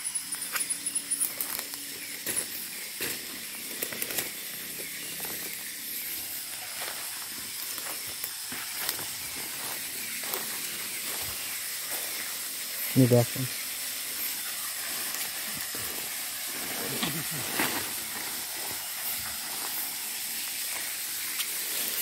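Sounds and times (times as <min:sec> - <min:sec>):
night insects hissing: 0:00.0 - 0:22.0
footsteps through undergrowth: 0:01.3 - 0:12.3, 0:14.8 - 0:22.0.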